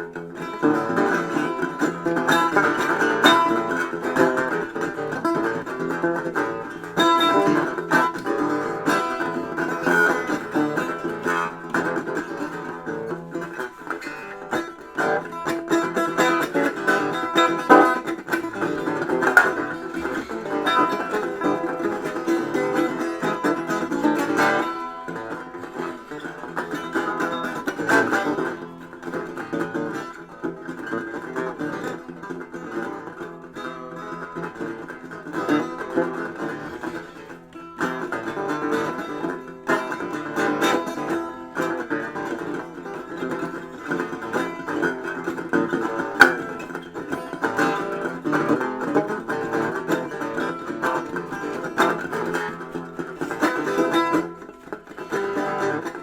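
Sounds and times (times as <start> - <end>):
plucked string instrument: 0.0 - 56.0.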